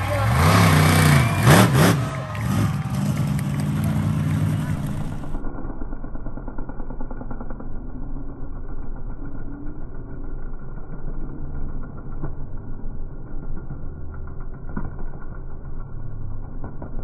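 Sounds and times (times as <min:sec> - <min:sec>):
quad engines running: 0:00.0 - 0:17.0.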